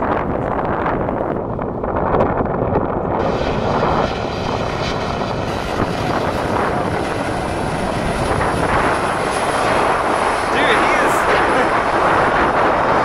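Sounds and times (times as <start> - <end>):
airliner engines running: 0.0 - 13.0.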